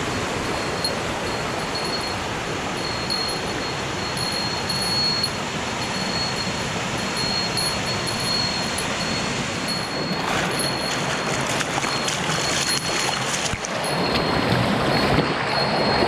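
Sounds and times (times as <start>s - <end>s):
stream splashing over rocks: 0.0s - 16.0s
thin high tone: 0.0s - 16.0s.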